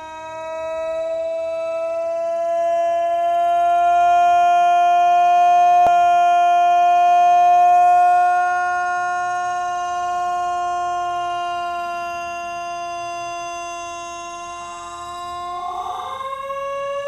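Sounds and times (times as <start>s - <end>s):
tornado siren tone: 0.0s - 17.0s.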